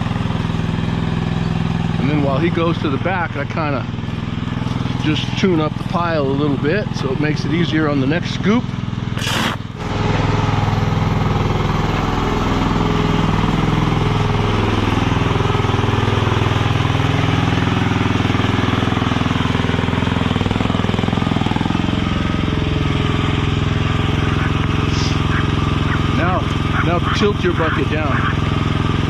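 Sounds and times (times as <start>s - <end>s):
skid steer engine running: 0.0s - 29.0s.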